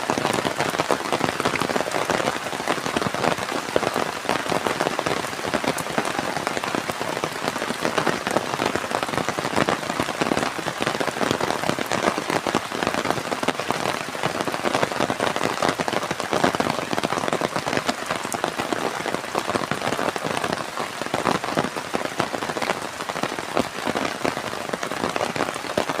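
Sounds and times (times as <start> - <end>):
rain on a hard surface: 0.0 - 26.0.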